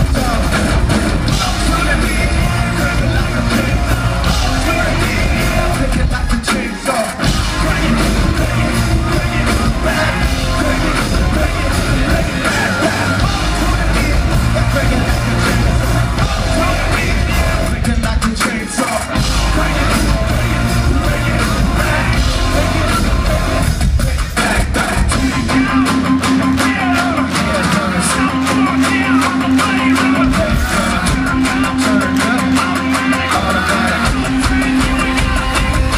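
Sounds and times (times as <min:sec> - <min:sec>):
live rock band playing: 0:00.0 - 0:35.9
person singing: 0:00.0 - 0:35.9.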